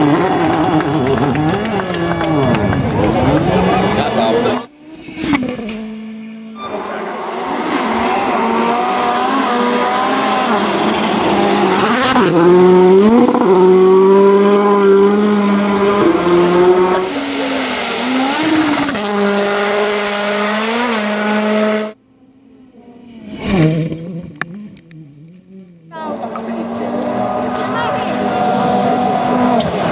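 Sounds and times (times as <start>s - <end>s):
rally car engine revving: 0.0s - 22.0s, 22.8s - 29.9s
second rally car engine: 0.0s - 29.9s.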